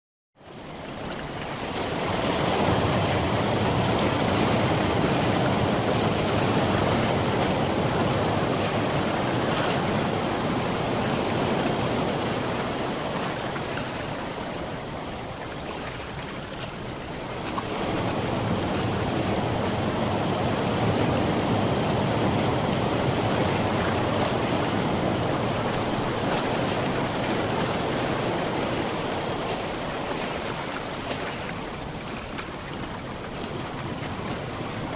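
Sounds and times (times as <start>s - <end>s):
sea waves breaking on shore: 0.4s - 34.9s.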